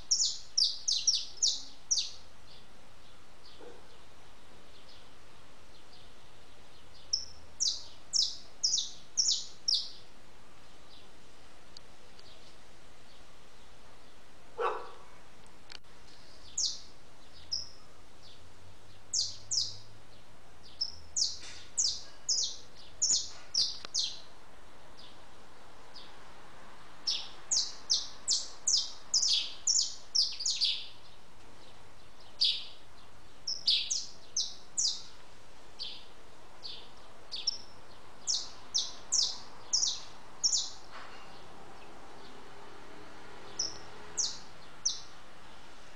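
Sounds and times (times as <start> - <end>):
small songbirds chirping: 0.0 - 45.9.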